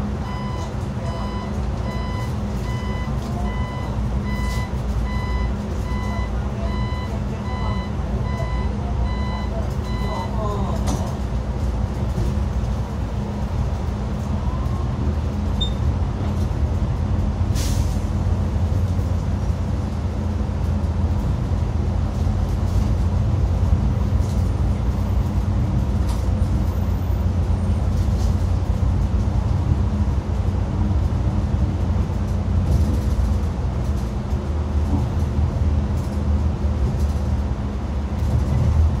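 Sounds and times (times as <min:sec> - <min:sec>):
bus interior drone: 0:00.0 - 0:39.0.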